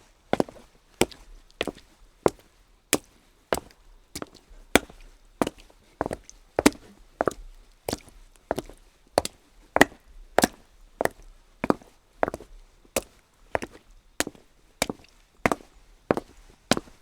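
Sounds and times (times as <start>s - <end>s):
footsteps on wet cobblestones: 0.4s - 17.0s.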